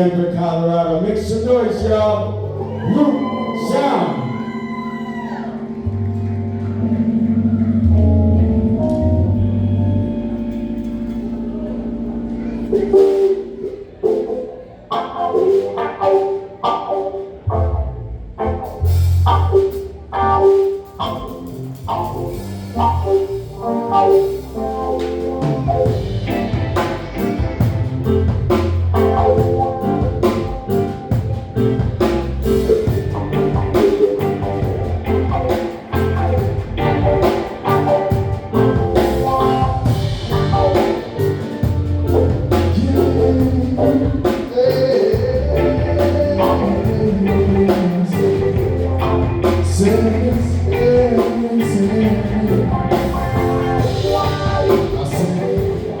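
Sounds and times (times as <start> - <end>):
bass guitar: 0.0 - 56.0
live reggae band: 0.0 - 56.0.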